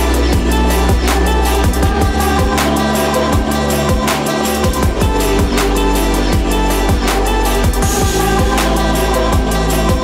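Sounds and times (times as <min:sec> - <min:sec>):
deep sliding bass line: 0:00.0 - 0:10.0
electronic music with steady beat: 0:00.0 - 0:10.0.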